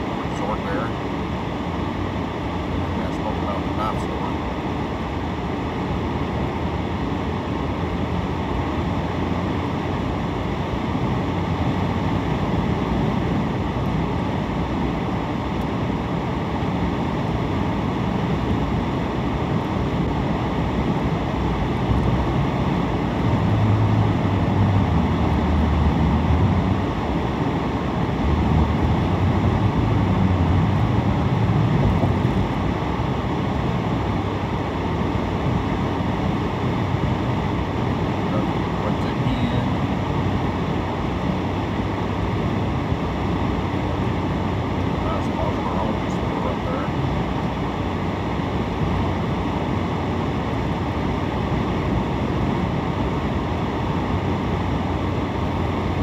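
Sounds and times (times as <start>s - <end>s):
engine hum: 0.0s - 56.0s.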